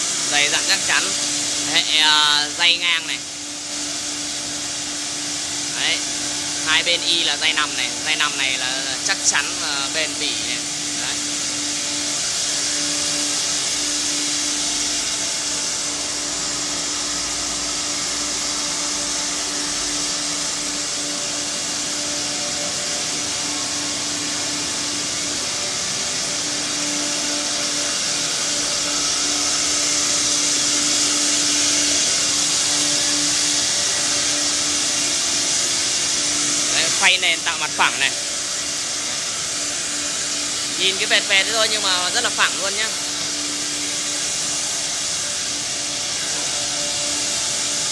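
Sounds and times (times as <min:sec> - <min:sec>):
router spindle milling: 0:09.2 - 0:47.9.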